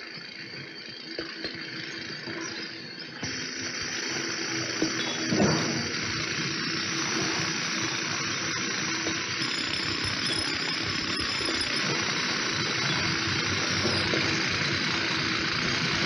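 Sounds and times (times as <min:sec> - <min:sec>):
rock drill hissing and rattling: 0:00.0 - 0:16.0.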